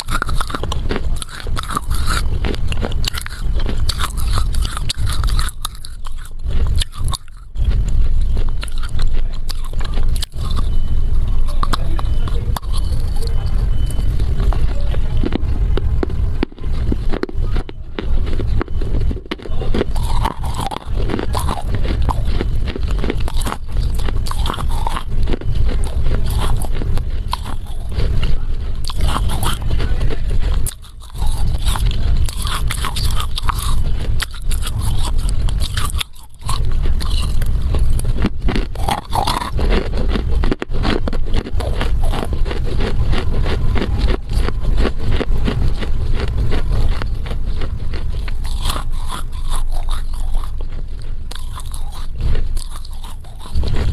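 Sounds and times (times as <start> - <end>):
clay being crunched and chewed: 0.0 - 53.9.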